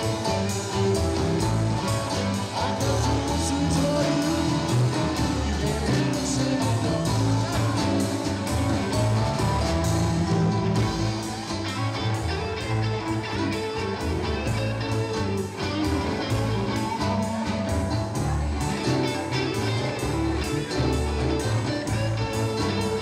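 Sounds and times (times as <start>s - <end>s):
drum kit: 0.0s - 23.0s
electric guitars: 0.0s - 23.0s
keyboard: 0.0s - 23.0s
live blues band: 0.0s - 23.0s.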